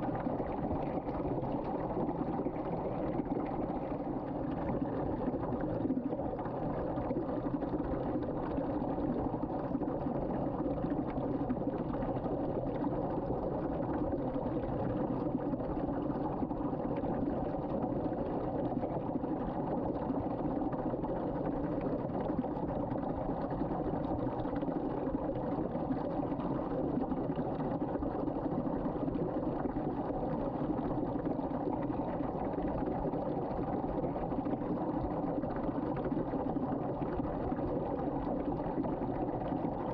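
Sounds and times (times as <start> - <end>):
water swirling down drain: 0.0 - 39.9.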